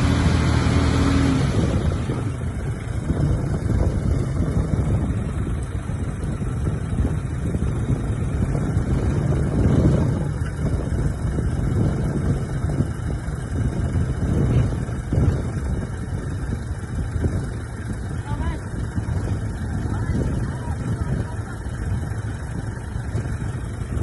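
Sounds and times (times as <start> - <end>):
heavy diesel engine rumbling: 0.0 - 24.0.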